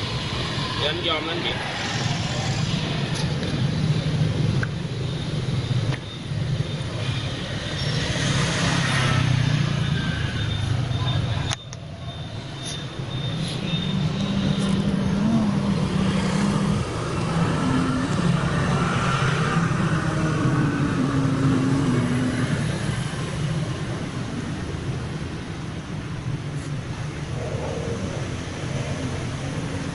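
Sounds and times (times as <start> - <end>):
street noise: 0.0 - 29.9
vehicle engines passing: 0.0 - 29.9.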